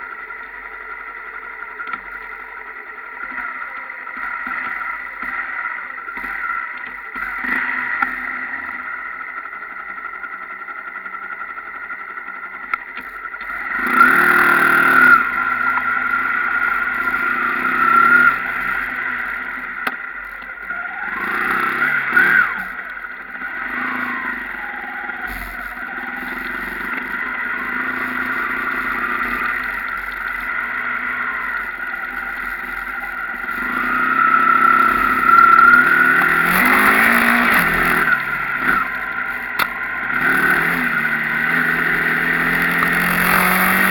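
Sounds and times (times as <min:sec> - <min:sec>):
motorcycle engines revving: 0:00.0 - 0:43.9.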